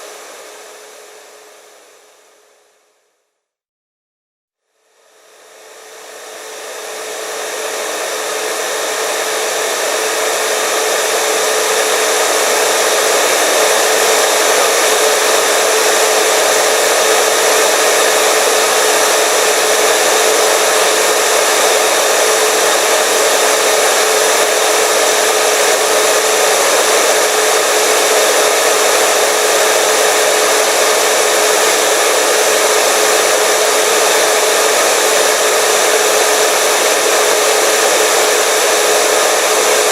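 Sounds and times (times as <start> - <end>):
hair dryer running: 0.0 - 2.8, 4.7 - 39.9.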